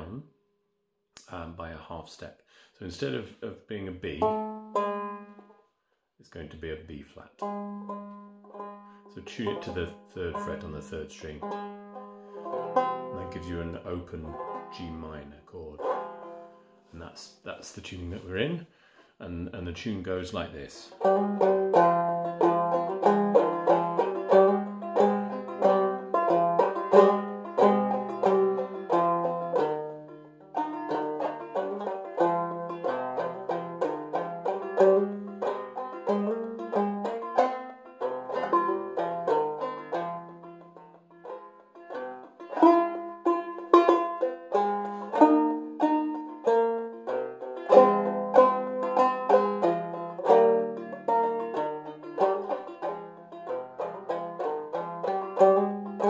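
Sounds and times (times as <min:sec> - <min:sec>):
solo banjo tune: 0:00.0 - 0:00.4, 0:02.8 - 0:56.0.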